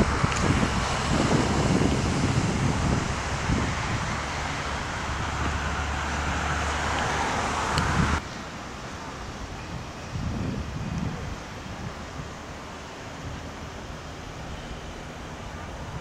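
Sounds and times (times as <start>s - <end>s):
outdoor rush: 0.0s - 16.0s
wind rumbling on microphone: 0.0s - 16.0s.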